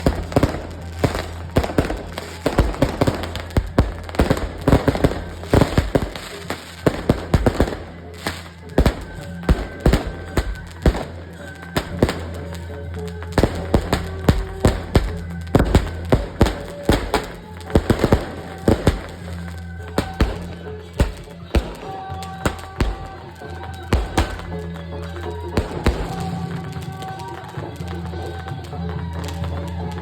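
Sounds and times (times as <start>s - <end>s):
firecrackers banging: 0.0s - 30.0s
procession music: 0.0s - 30.0s.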